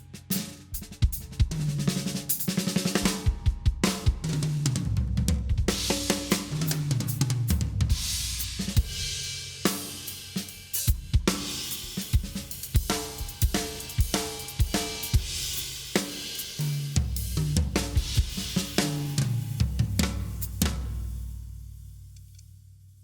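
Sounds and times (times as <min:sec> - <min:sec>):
drum kit groove: 0:00.0 - 0:22.4.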